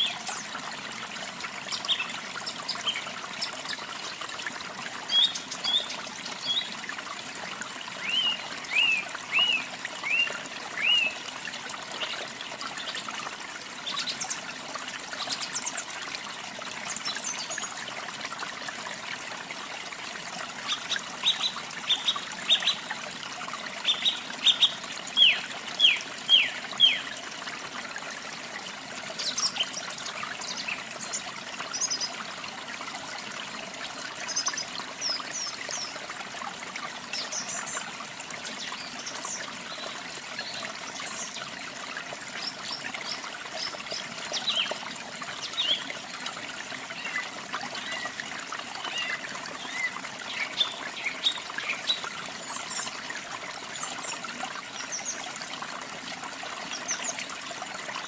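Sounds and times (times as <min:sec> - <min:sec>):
trickling water: 0:00.0 - 0:58.0.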